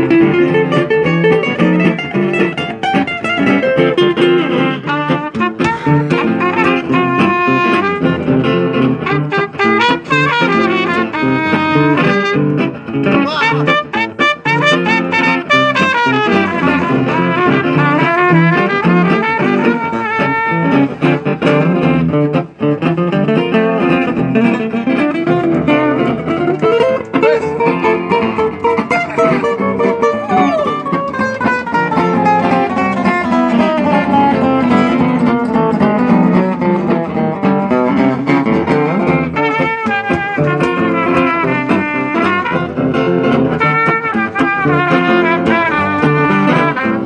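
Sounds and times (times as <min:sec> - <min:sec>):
trumpet playing melody: 0:00.0 - 0:22.1, 0:23.6 - 0:35.4, 0:38.6 - 0:47.0
guitar strummed: 0:00.0 - 0:47.0.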